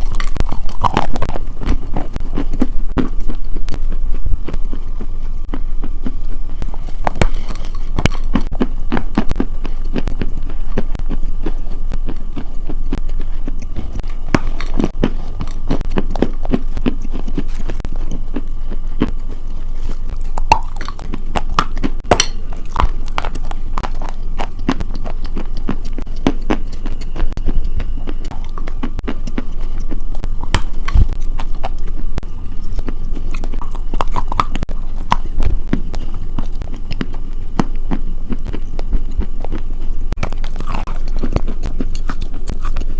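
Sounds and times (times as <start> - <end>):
crisp crunching: 0.0 - 42.9.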